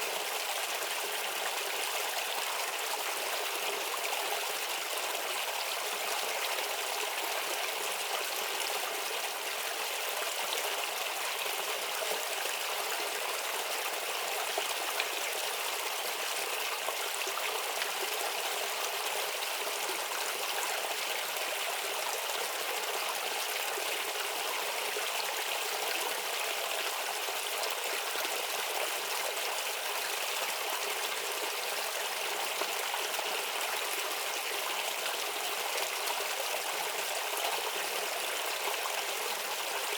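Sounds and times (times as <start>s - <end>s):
stream babbling and trickling: 0.0s - 39.9s.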